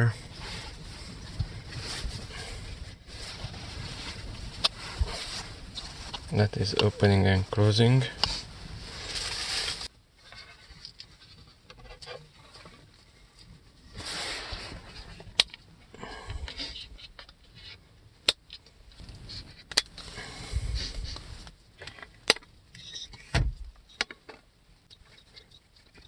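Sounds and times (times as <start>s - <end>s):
plastic parts rustling and scraping: 0.0s - 26.0s.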